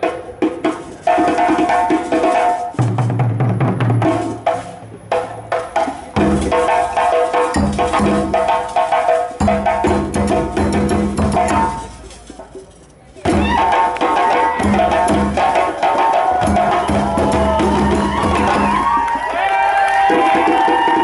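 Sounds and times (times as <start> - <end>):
bass drums beaten with sticks: 0.0 - 12.1, 13.2 - 18.9
hand drums playing rhythm: 0.0 - 19.1.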